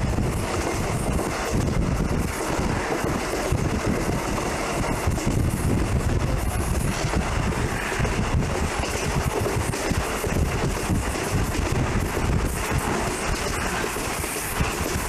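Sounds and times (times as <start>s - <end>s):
train running: 0.0s - 15.0s
wind buffeting microphone: 0.0s - 15.0s.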